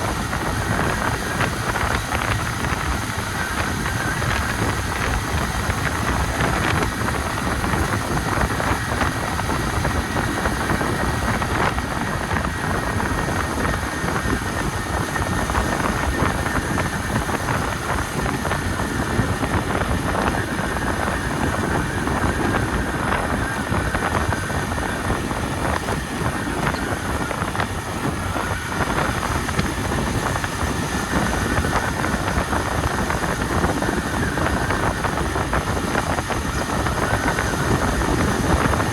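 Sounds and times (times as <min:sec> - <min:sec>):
motorcycle engine running: 0:00.0 - 0:38.9
rain hitting camera: 0:00.0 - 0:38.9
wind on microphone: 0:00.0 - 0:38.9.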